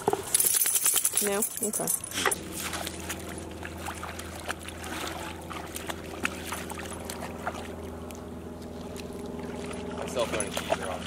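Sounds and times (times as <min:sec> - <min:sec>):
low mechanical hum: 0:00.0 - 0:11.0
dog splashing in shallow water: 0:02.1 - 0:11.0.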